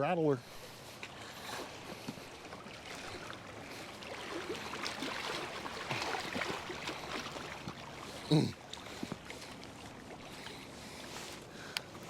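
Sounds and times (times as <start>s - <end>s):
water splashing and trickling: 0.6s - 12.0s.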